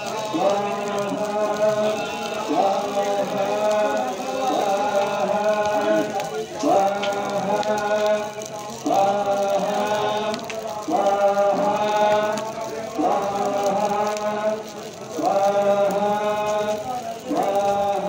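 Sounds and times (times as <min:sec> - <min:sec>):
chanting mantras: 0:00.0 - 0:18.0.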